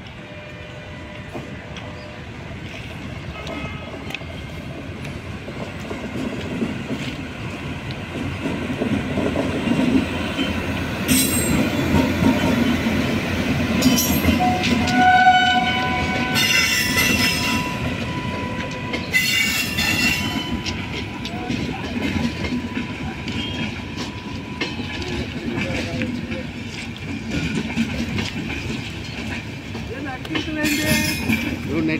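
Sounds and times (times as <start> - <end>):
train wheels rumbling on rail: 0.0 - 31.9.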